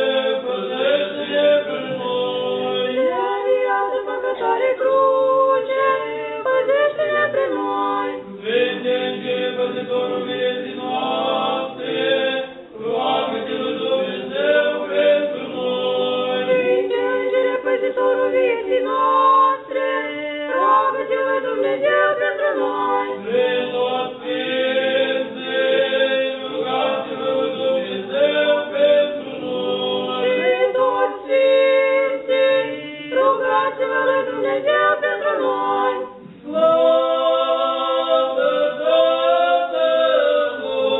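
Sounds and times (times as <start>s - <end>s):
choir singing liturgical chant: 0.0s - 40.9s.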